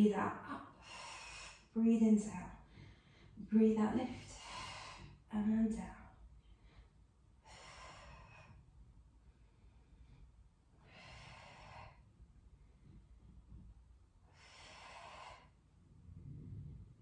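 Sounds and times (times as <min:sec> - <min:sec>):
woman breathing: 0:00.5 - 0:05.3, 0:06.0 - 0:17.0.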